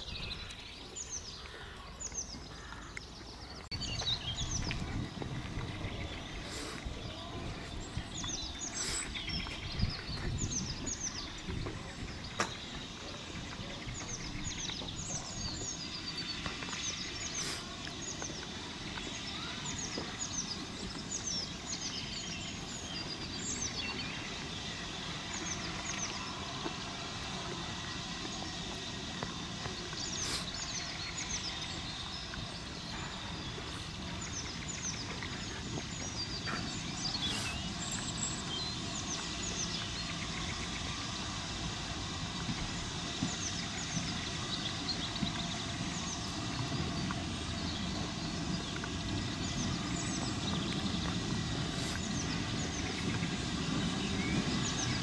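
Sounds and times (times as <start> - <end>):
small birds chirping: 0.0 - 55.0
steam locomotive rumble: 0.0 - 55.0.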